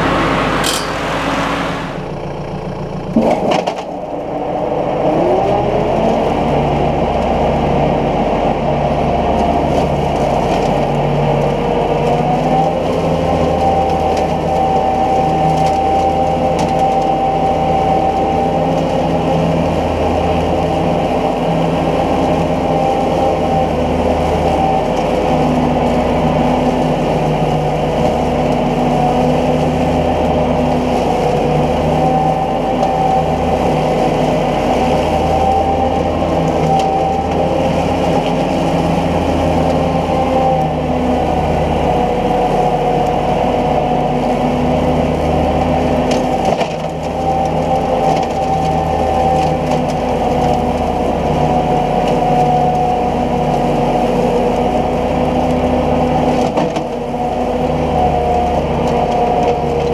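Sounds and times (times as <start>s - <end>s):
rotary cutter mulching grass: 0.0s - 59.9s
tractor diesel engine under load: 0.0s - 59.9s.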